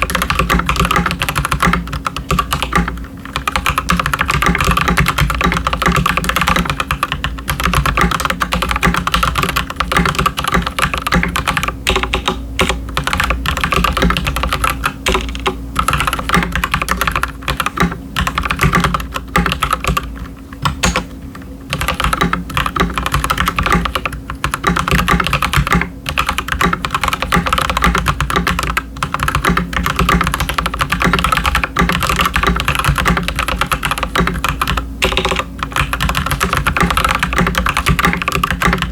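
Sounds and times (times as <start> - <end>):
mechanical keyboard typing: 0.0 - 21.1, 21.7 - 38.9.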